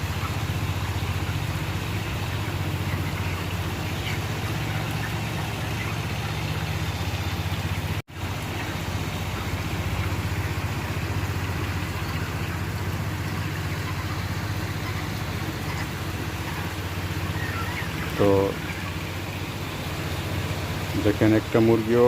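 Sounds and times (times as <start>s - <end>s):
steady motor hum: 0.0s - 22.0s.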